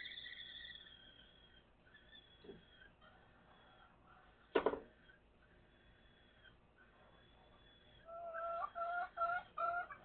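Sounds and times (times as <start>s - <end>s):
thin steady high tone: 0.0s - 9.1s.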